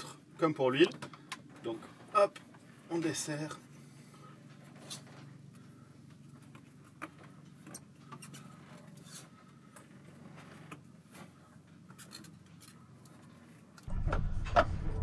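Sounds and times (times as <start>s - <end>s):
low steady hum: 0.0s - 15.0s
faint clicks and handling noises: 0.8s - 2.9s, 3.5s - 13.9s.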